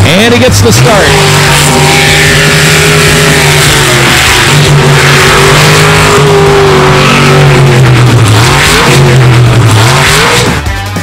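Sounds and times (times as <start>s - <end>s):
boat engine running at high revs: 0.0s - 11.0s.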